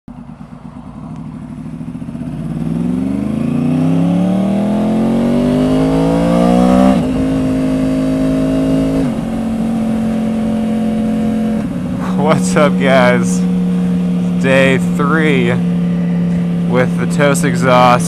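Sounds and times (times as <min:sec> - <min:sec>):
motorcycle engine accelerating: 0:00.1 - 0:18.0.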